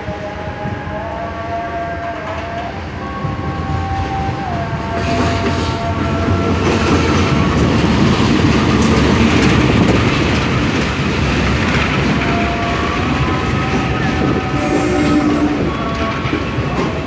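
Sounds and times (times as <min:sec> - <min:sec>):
train passing with rumble: 0:00.0 - 0:17.0.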